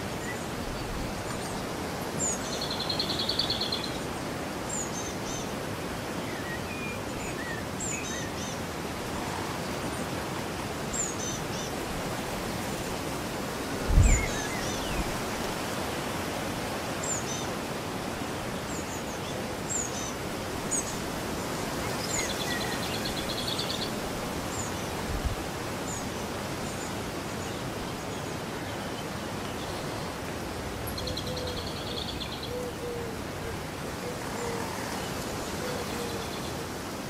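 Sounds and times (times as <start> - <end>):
songbirds singing: 0.1 - 10.2, 13.9 - 16.2, 16.9 - 36.8.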